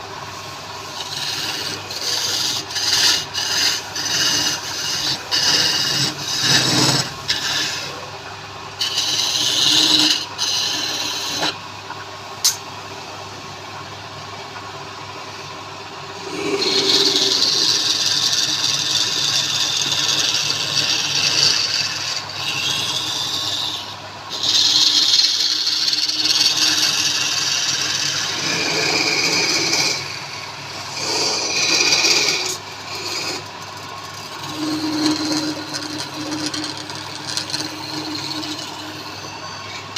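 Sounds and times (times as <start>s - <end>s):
tool scraping wood on a lathe: 0.0s - 8.2s, 8.8s - 11.6s, 16.2s - 39.9s.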